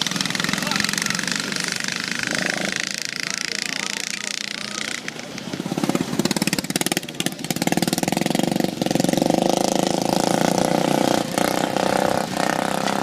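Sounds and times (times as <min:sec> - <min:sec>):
lawn mower engine running hard: 0:00.0 - 0:13.0.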